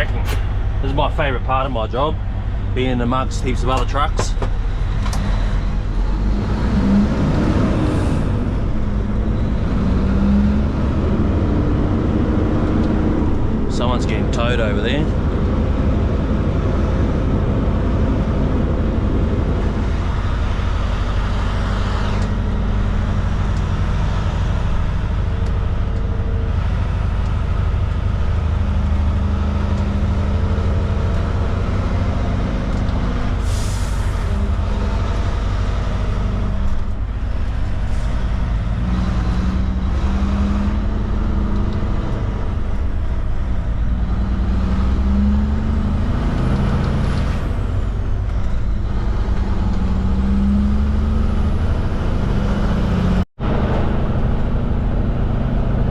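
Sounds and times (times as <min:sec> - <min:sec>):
truck diesel engine: 0:00.0 - 0:55.9.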